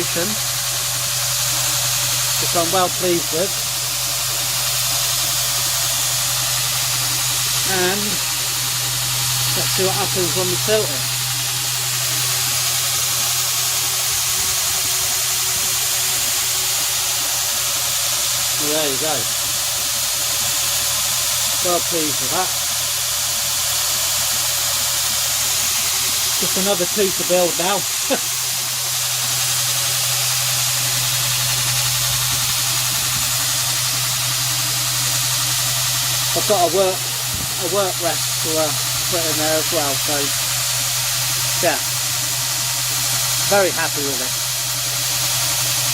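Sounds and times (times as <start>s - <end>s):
belt grinder running: 0.0s - 45.9s
motor low hum: 0.0s - 45.9s.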